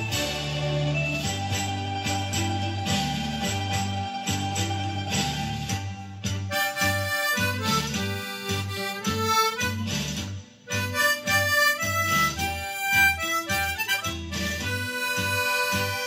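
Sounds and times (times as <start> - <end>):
harmonica playing slow melody: 0.0 - 16.0
karaoke backing track with bass beat: 0.0 - 16.0.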